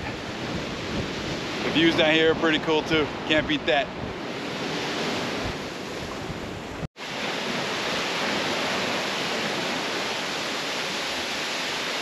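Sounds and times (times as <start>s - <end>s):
surf washing over rocks: 0.0s - 6.2s, 7.0s - 12.0s.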